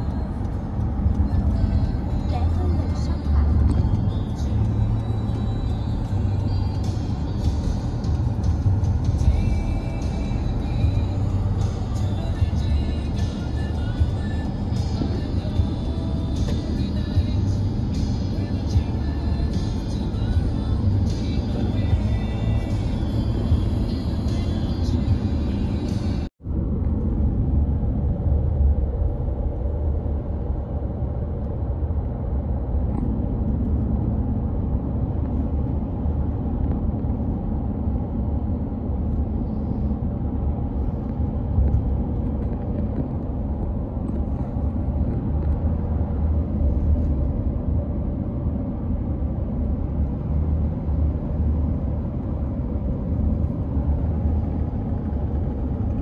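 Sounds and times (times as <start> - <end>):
car road and tyre noise: 0.0 - 56.0.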